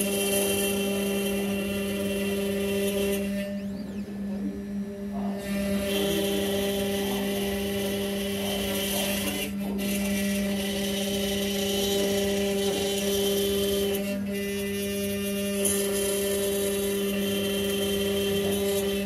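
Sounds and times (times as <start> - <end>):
mill spindle humming: 0.0 - 19.0.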